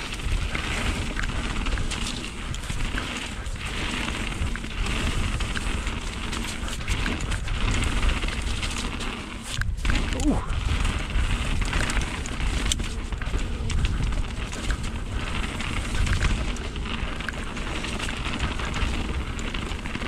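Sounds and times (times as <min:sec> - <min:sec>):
bike rattling: 0:00.0 - 0:20.0
wind buffeting microphone: 0:00.0 - 0:20.0.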